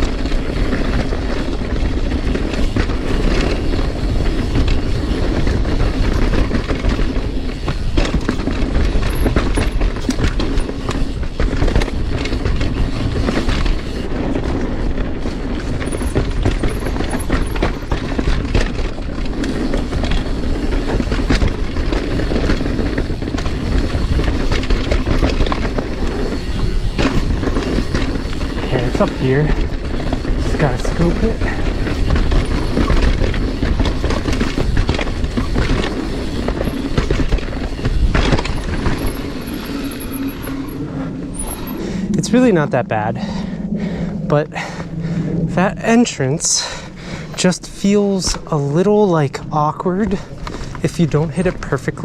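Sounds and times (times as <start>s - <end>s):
bike chain and frame rattling: 0.0s - 52.0s
bike tyres rumbling over dirt: 0.0s - 52.0s.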